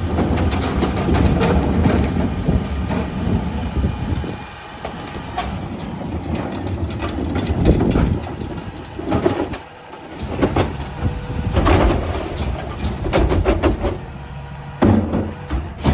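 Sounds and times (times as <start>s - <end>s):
diesel engine rumble: 0.0s - 15.9s
metal clanks and rattles: 0.0s - 15.9s.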